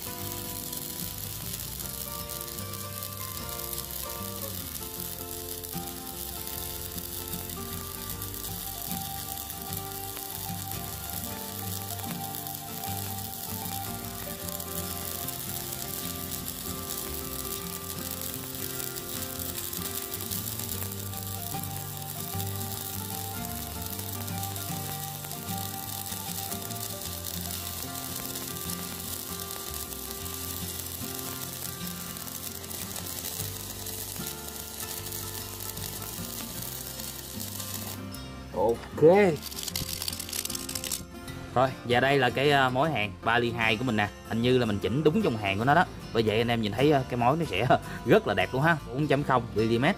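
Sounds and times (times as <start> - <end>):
welding arc crackling sizzle: 0.0 - 41.2.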